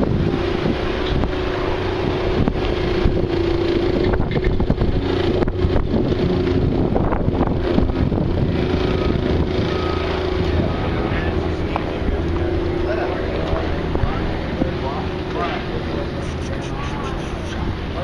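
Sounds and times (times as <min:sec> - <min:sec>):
wind buffeting microphone: 0:00.0 - 0:15.4
engine humming: 0:00.0 - 0:18.0.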